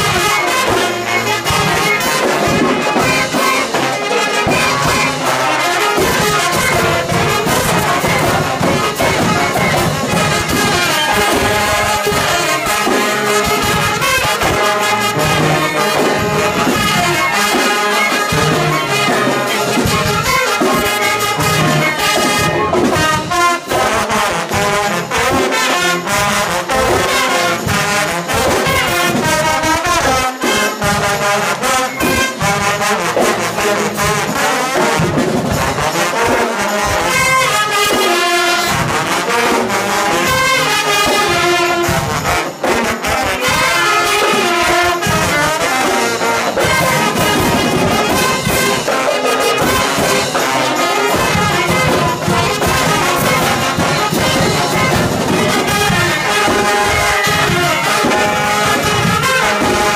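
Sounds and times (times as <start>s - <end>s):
marching band playing: 0.0s - 59.9s.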